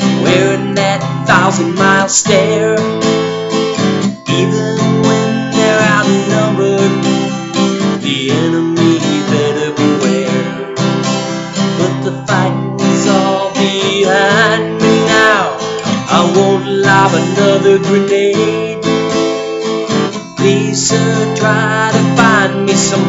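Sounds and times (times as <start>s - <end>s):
acoustic guitar strumming: 0.0s - 23.0s
man singing: 0.0s - 23.0s.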